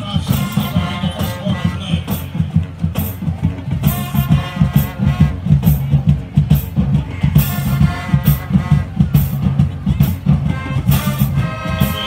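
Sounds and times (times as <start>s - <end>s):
drum beat: 0.0s - 12.0s
marching band playing: 0.0s - 12.0s.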